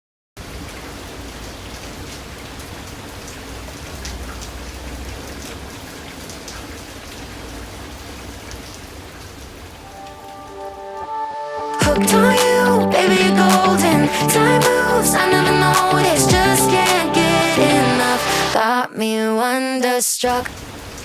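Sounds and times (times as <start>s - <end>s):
steady rain falling: 0.4s - 11.2s, 11.8s - 18.6s, 20.3s - 21.0s.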